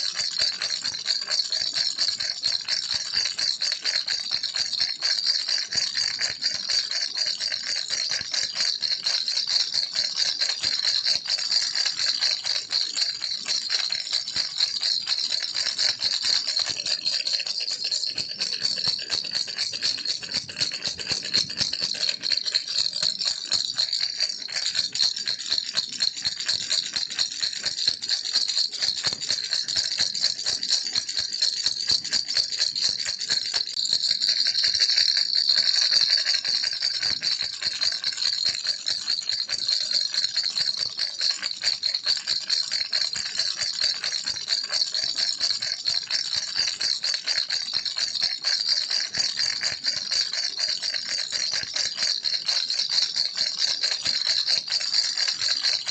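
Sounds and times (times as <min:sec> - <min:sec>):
baby rattle shaking: 0:00.0 - 0:52.5, 0:53.1 - 0:55.9.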